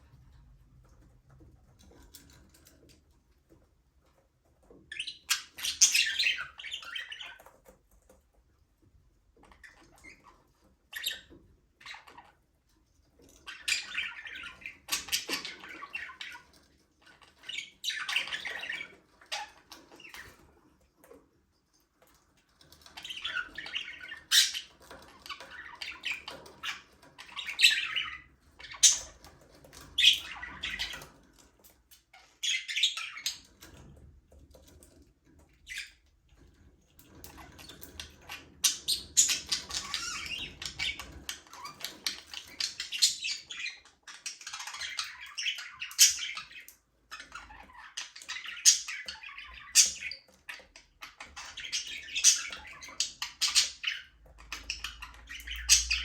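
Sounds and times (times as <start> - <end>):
budgerigars chirping and chattering: 4.6 - 8.1, 9.3 - 21.2, 22.4 - 56.0.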